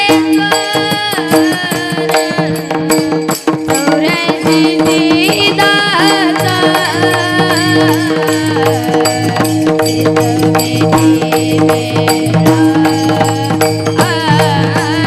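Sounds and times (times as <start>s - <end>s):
devotional song melody: 0.0s - 15.0s
light percussion: 0.0s - 15.0s.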